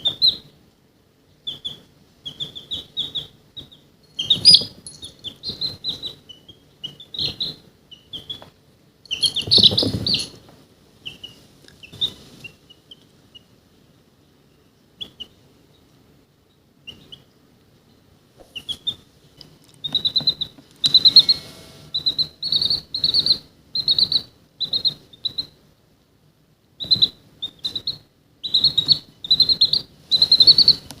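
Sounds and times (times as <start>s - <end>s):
chick peeping: 0.0s - 0.7s, 1.3s - 10.4s, 11.0s - 13.6s, 14.2s - 25.6s, 26.8s - 31.0s.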